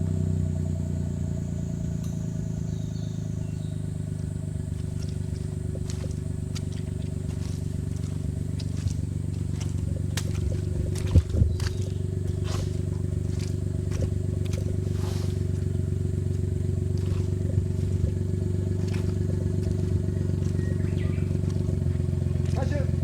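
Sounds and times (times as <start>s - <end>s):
small engine running at low revs: 0.0s - 23.0s
vehicle clicks and knocks: 3.2s - 23.0s.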